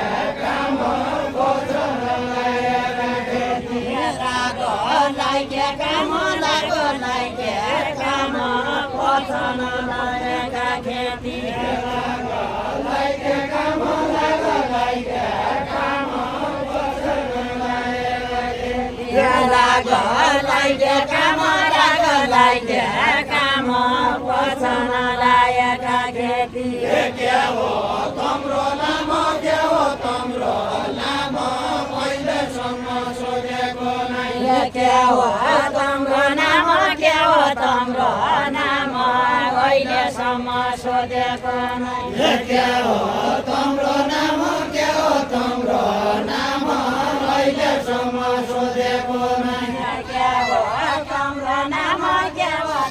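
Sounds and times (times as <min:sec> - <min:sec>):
group of singers chanting: 0:00.0 - 0:52.9.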